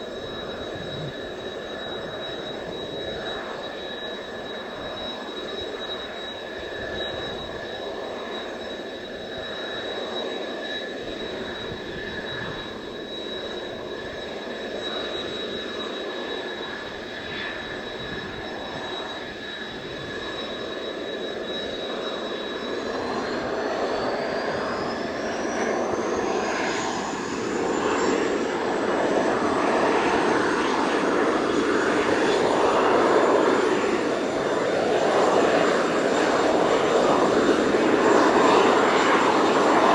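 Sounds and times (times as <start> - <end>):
jet engine whining: 0.0 - 39.9.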